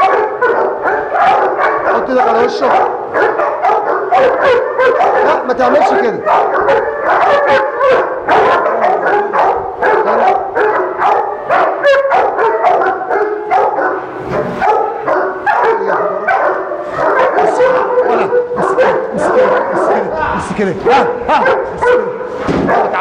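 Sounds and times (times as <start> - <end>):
dogs barking rapidly: 0.0 - 23.0.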